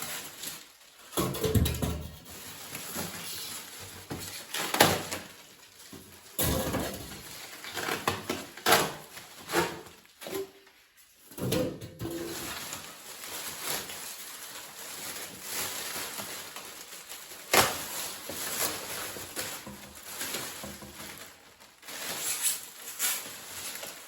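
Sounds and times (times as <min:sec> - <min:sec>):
packaging rustling and scraping: 0:00.0 - 0:11.3, 0:12.0 - 0:24.0.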